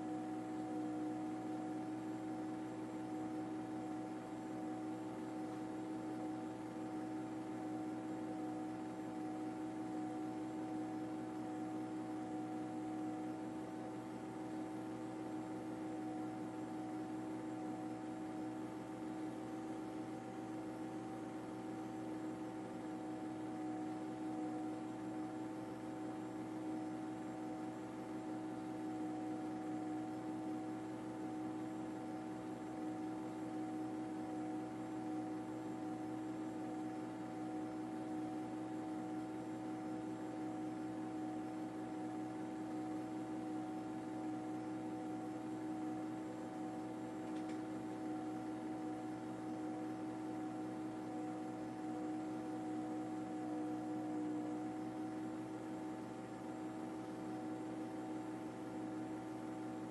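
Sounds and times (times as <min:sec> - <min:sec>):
steady mechanical hum: 0:00.0 - 0:59.9.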